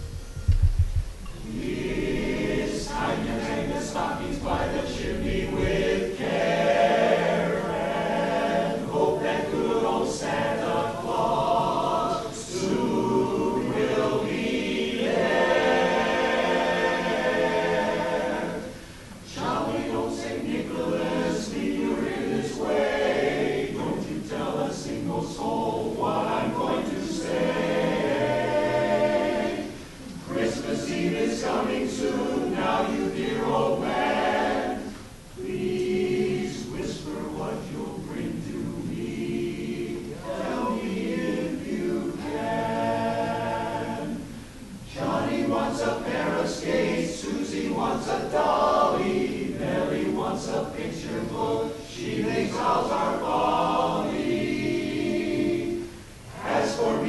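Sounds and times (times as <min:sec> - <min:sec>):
men's chorus singing a cappella: 0:01.4 - 0:57.0.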